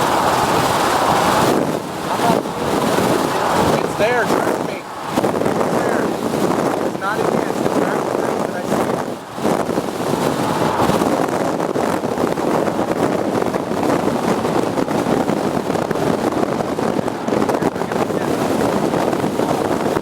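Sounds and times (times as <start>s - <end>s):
vehicle noise: 0.0s - 20.0s
wind buffeting microphone: 0.0s - 20.0s.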